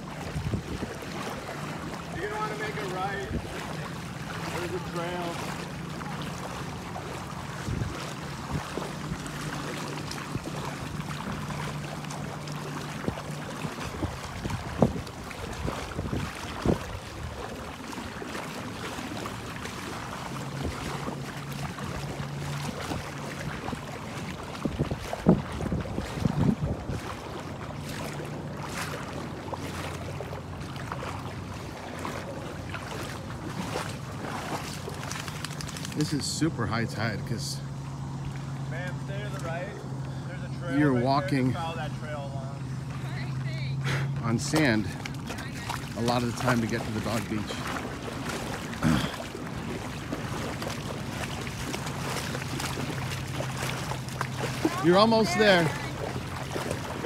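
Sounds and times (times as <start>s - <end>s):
footsteps splashing through shallow water: 0.0s - 57.0s
motorboat engine hum: 0.0s - 57.0s.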